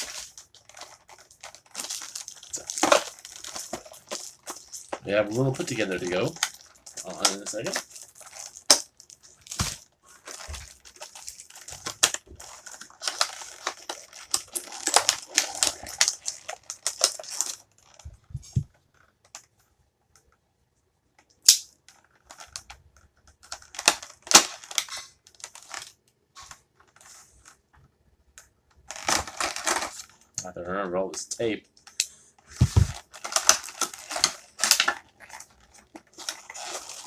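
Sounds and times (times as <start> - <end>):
plastic packaging crinkling: 0.0 - 19.4, 21.9 - 27.5, 28.8 - 30.3, 32.5 - 37.0.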